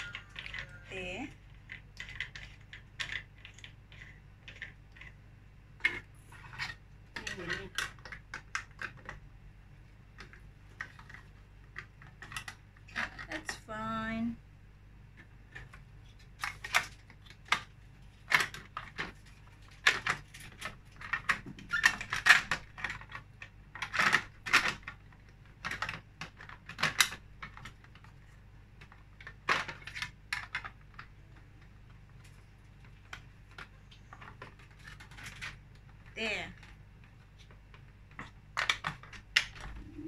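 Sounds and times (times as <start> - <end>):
plastic parts clicking and knocking: 0.0 - 13.8, 15.0 - 40.0.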